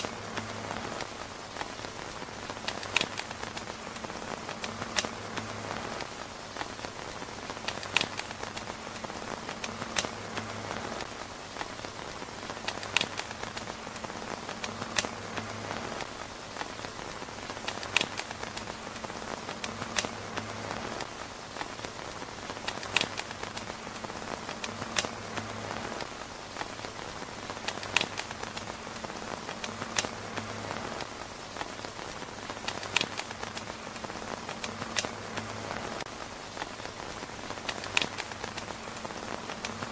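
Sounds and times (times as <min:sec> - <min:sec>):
rain on a tent roof: 0:00.0 - 0:39.9
sharp ticks and pops: 0:00.0 - 0:39.9.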